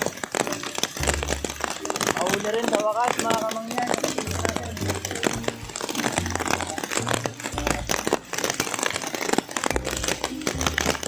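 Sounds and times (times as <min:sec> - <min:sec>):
plastic crinkling on microphone: 0:00.0 - 0:11.0.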